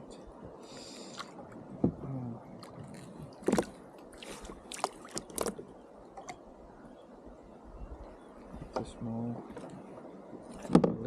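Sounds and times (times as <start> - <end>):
light water sounds: 0.0 - 11.0.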